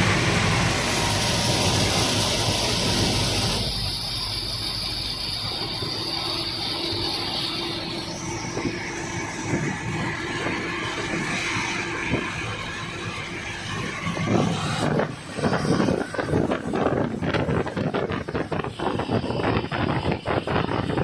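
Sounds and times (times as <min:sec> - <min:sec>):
vehicle running: 0:00.0 - 0:21.0.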